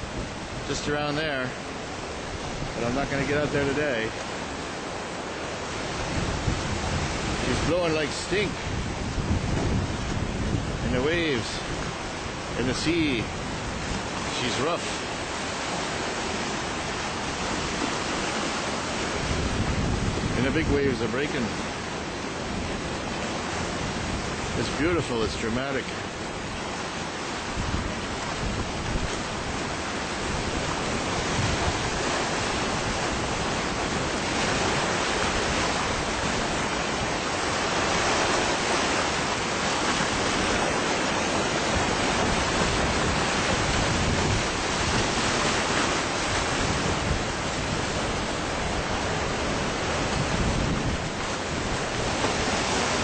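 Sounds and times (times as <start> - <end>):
waves breaking over rocks: 0.0 - 53.0
wind buffeting microphone: 1.6 - 14.3, 14.9 - 25.0, 26.0 - 53.0.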